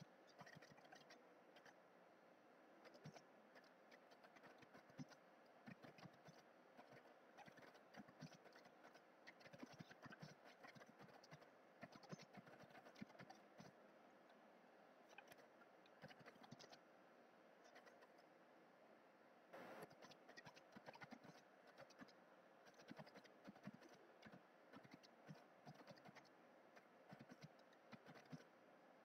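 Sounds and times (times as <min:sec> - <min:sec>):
faint keyboard typing: 0:00.3 - 0:01.8, 0:02.8 - 0:13.8, 0:15.1 - 0:16.8, 0:17.6 - 0:18.3, 0:19.6 - 0:28.6.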